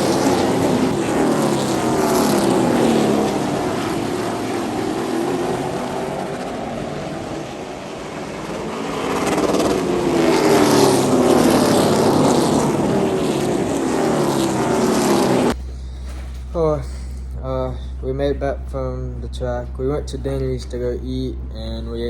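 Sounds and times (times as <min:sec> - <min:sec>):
race car engines accelerating: 0:00.0 - 0:22.0.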